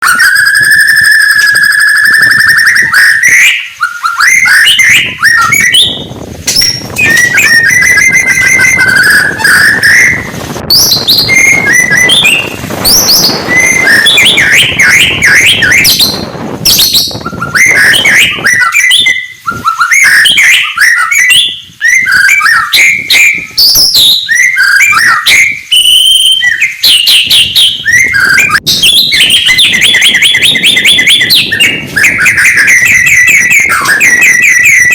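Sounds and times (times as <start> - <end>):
songbird whistling and trilling: 0.0 - 34.9.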